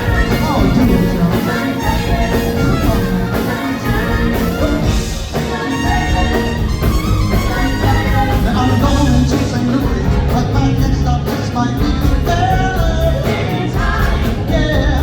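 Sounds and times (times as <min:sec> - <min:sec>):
drums keeping steady beat: 0:00.0 - 0:15.0
live soul band with horns: 0:00.0 - 0:15.0.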